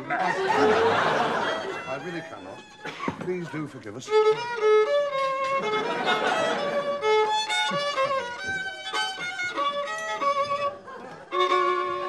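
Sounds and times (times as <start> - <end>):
violin melody: 0.0 - 12.0.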